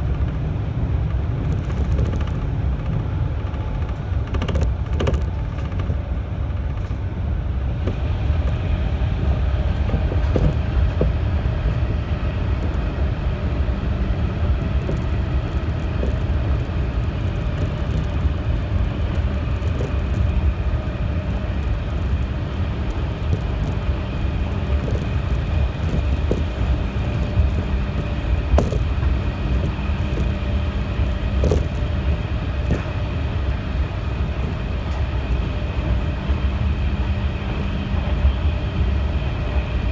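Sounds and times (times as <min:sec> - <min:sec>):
train rumbling in tunnel: 0:00.0 - 0:39.9.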